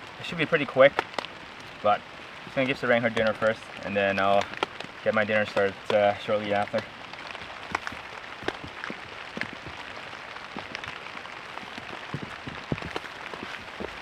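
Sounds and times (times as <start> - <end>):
rain falling: 0.0 - 14.0
heavy drops ticking on surface: 0.1 - 14.0.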